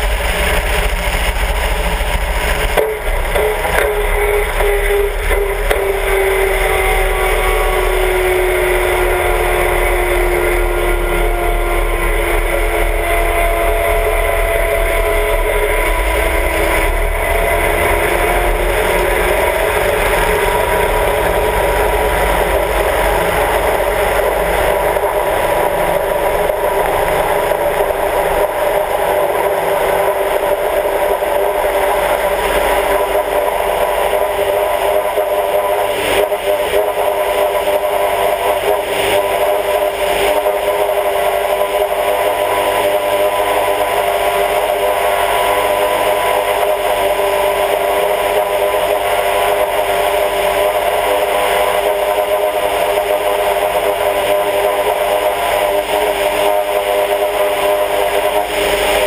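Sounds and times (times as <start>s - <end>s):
light airplane engine and propeller: 0.0s - 59.0s.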